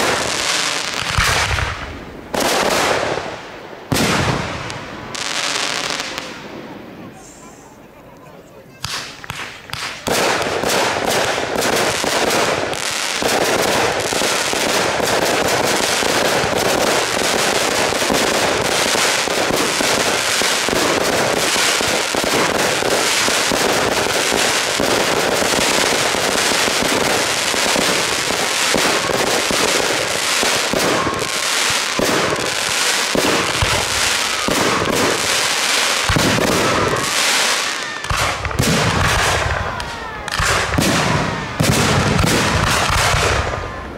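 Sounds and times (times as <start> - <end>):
fireworks launching and bursting: 0.0 - 7.8, 8.7 - 43.9.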